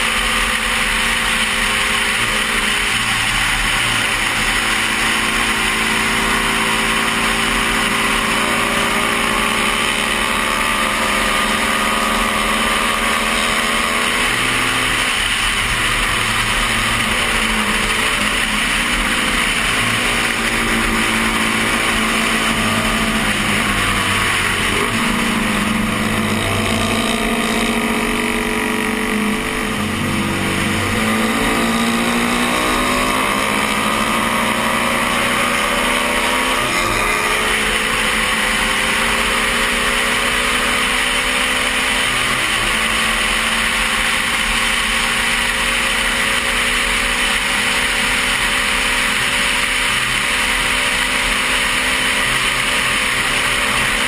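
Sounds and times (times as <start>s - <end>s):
motorcycle engine running hard: 0.0s - 54.0s.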